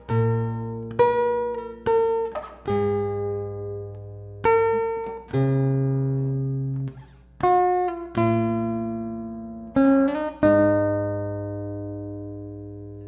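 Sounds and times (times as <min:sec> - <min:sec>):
fingerpicked acoustic guitar: 0:00.0 - 0:13.0.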